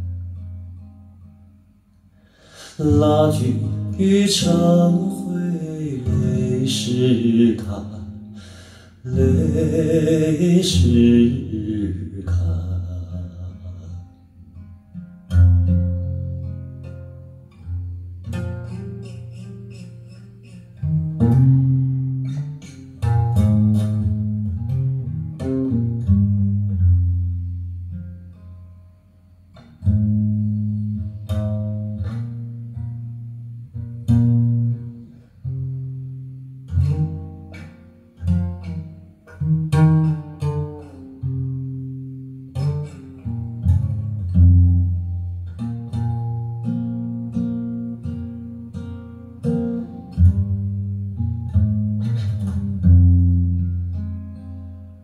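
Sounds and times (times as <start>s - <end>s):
plucked-string ballad over speakers: 0.0s - 55.0s.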